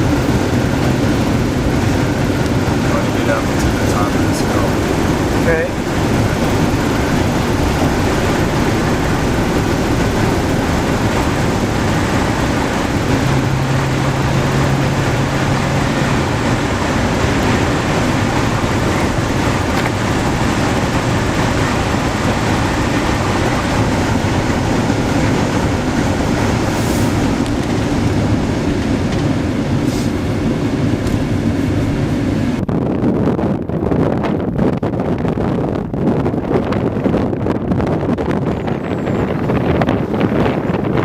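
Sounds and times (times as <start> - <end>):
blizzard wind buffeting microphone: 0.0 - 41.0.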